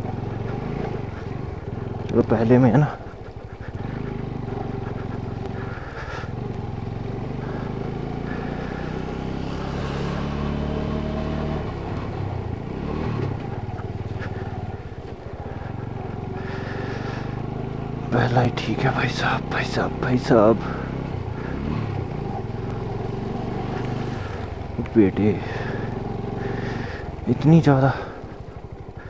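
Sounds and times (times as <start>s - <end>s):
motorcycle engine at low speed: 0.0s - 29.0s.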